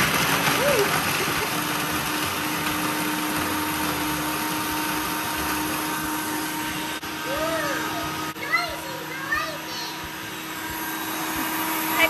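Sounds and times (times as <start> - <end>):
food processor grinding biscuits: 0.0 - 12.0
motor hum: 0.0 - 12.0.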